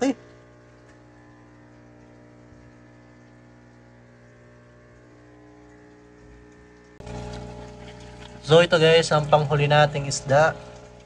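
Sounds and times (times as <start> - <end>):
aquarium pumps humming: 0.0 - 11.0.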